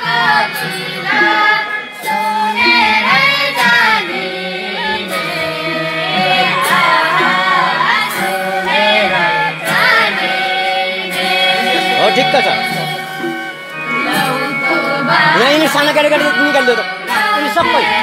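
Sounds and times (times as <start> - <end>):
harmonium holding steady notes: 0.0 - 18.0
women singing a folk song: 0.0 - 18.0.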